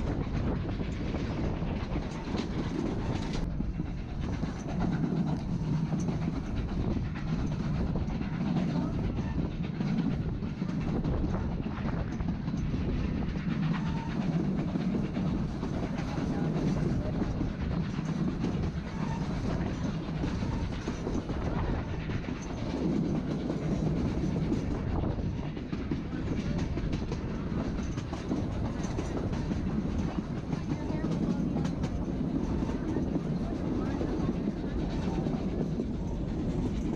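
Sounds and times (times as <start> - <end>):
train rumbling: 0.0 - 36.9
wheels clacking over rail joints: 0.0 - 36.9.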